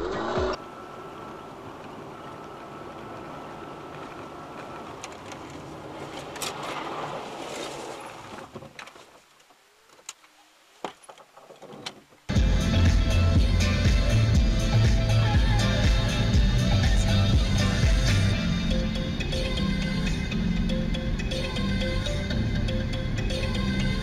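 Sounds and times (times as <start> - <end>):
car road and engine noise: 0.0 - 10.3, 10.9 - 24.0.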